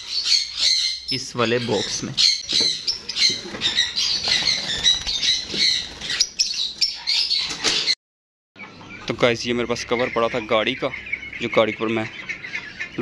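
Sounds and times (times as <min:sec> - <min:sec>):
pet birds chattering and squawking: 0:00.0 - 0:08.0, 0:08.6 - 0:13.0.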